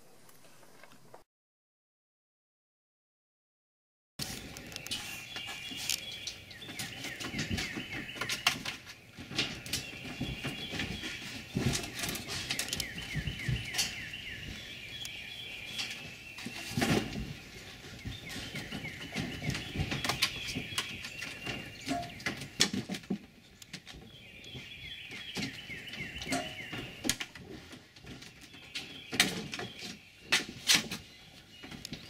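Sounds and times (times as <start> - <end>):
songbirds chirping: 4.2 - 32.0.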